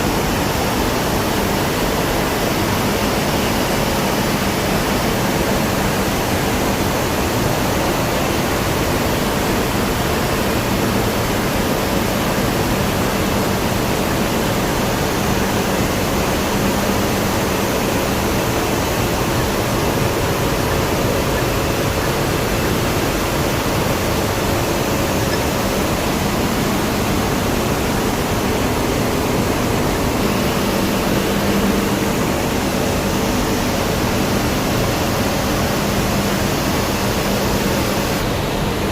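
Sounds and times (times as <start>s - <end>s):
industrial furnace noise: 0.0s - 38.9s.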